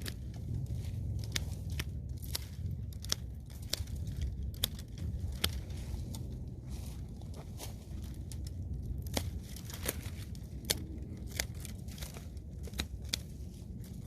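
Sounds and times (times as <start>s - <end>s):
pruning shears snipping: 0.0s - 14.0s.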